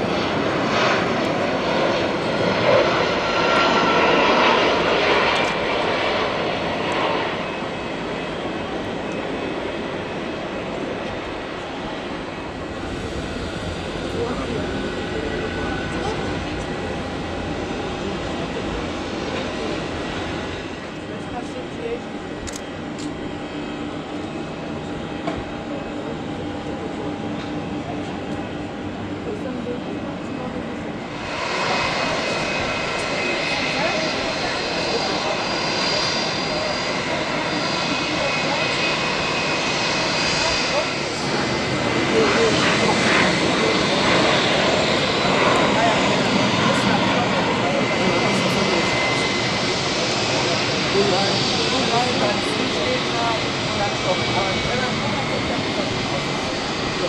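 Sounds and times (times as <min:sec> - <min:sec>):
jet aircraft engines running: 0:00.0 - 0:57.0.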